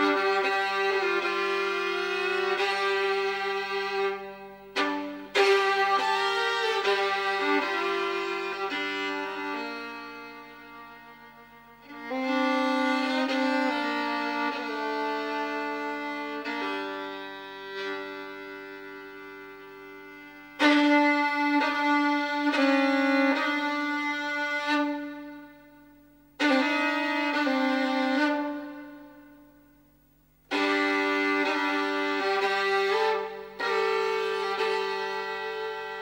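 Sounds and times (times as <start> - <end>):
bowed violin playing long notes: 0.0 - 29.8, 30.5 - 36.0.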